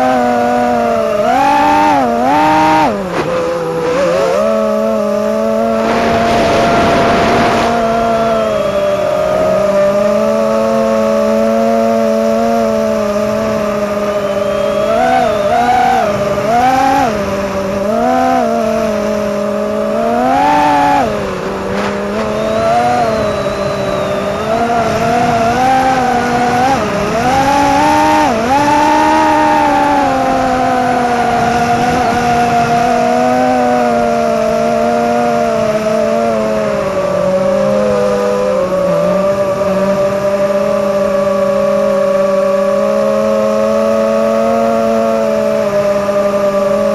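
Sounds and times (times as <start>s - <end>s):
quadcopter motors whining: 0.0s - 46.9s.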